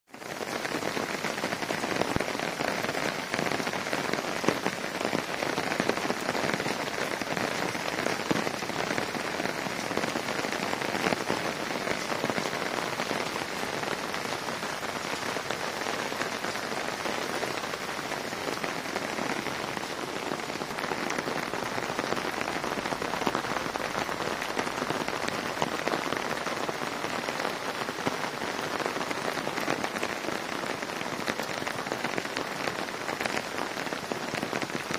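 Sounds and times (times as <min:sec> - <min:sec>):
rain pattering on leaves: 0:00.1 - 0:34.9.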